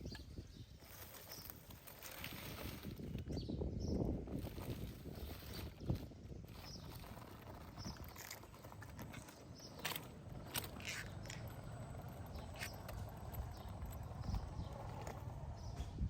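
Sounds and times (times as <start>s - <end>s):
rc car rumble: 0.0s - 16.0s.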